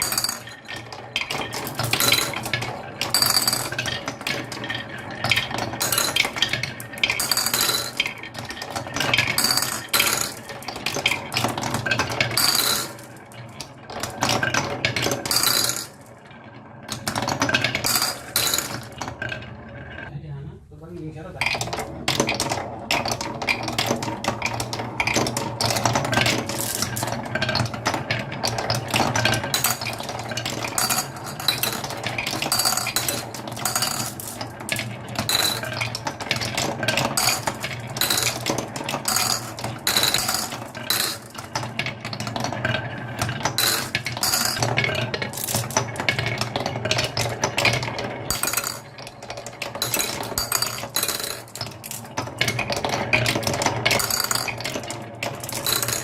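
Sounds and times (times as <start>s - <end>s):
marbles clattering down a track: 0.0s - 20.1s, 21.4s - 56.0s.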